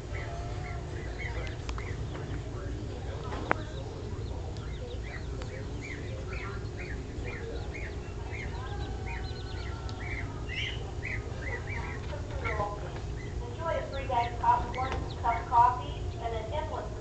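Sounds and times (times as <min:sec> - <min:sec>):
small bird chirping: 0:00.0 - 0:16.7
low background rumble: 0:00.0 - 0:17.0.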